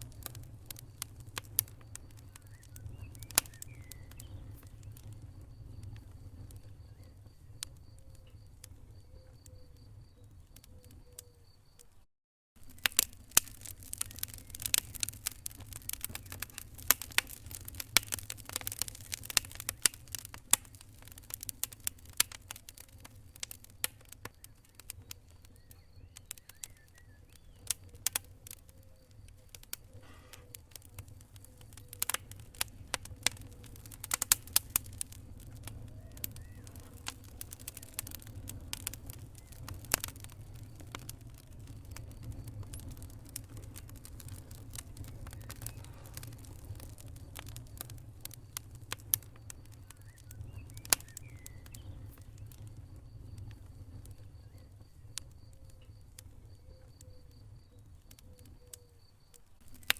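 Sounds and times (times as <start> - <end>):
wood fire crackling: 0.0 - 12.0, 12.6 - 59.9.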